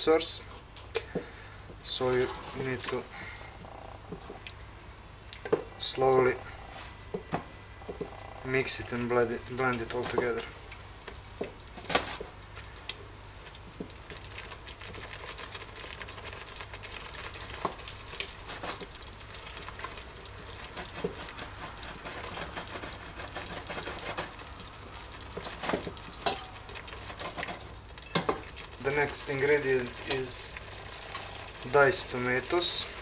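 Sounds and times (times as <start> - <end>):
paste sizzling and crackling: 5.2 - 33.0
wooden spoon stirring paste: 5.4 - 33.0.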